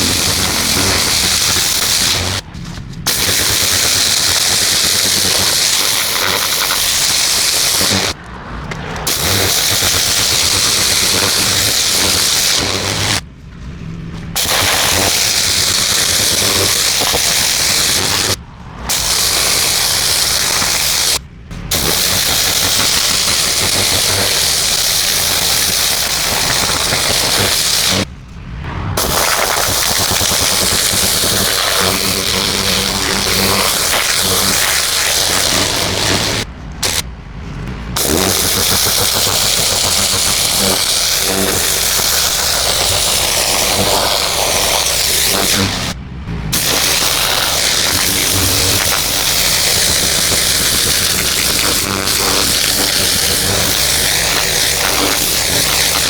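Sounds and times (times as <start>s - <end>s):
pressure washer jet hissing: 0.0s - 8.2s, 9.0s - 13.2s, 14.3s - 28.1s, 29.0s - 37.0s, 38.0s - 56.0s
pressure washer machine running: 0.0s - 8.2s, 9.0s - 13.2s, 14.2s - 28.1s, 29.0s - 37.0s, 38.0s - 56.0s.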